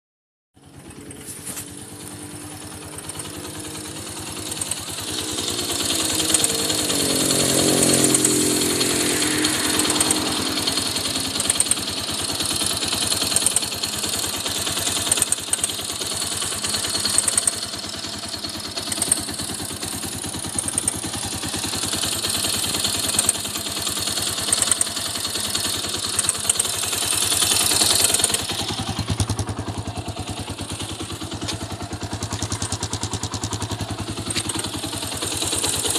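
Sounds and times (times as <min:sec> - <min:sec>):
engine ticking: 0:00.6 - 0:35.9
motorcycle engine running: 0:00.6 - 0:35.9.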